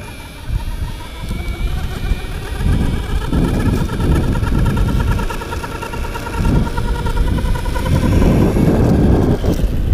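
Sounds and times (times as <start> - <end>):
electric skateboard belt whining: 0.0 - 9.9.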